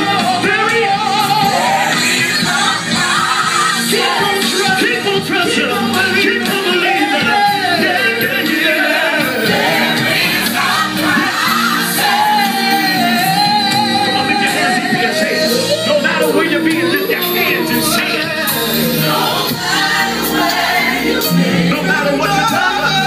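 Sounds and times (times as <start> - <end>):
band accompaniment: 0.0 - 23.0
gospel singing: 0.0 - 23.0.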